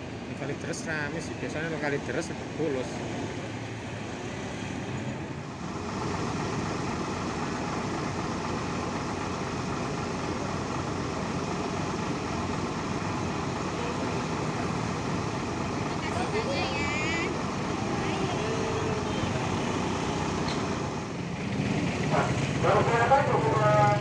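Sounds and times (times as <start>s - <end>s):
diesel bus engines rumbling: 0.0s - 24.0s.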